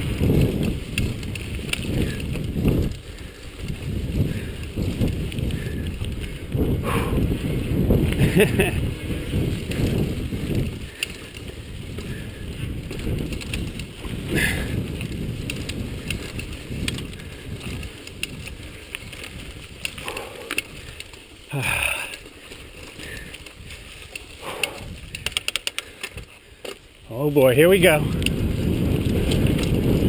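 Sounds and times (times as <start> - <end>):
wind on microphone: 0.0 - 26.3, 27.5 - 30.0
bike rattling over bumps: 0.0 - 30.0
bike tyres crunching over dirt: 0.0 - 30.0.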